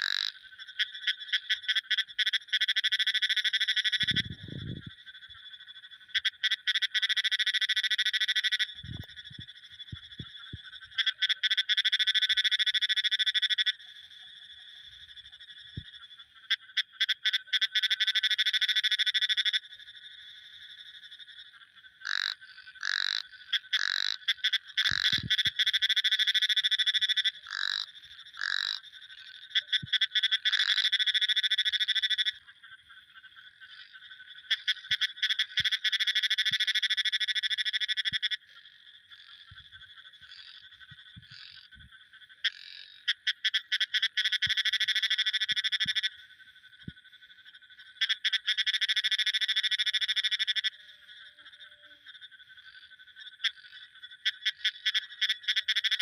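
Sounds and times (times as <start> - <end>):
frogs calling in pulsed trills: 0.0 - 56.0.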